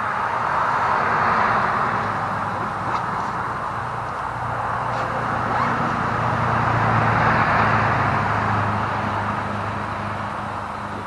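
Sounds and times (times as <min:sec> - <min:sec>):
low engine hum: 0:00.0 - 0:11.0
vehicle tyre and road noise: 0:00.0 - 0:11.0.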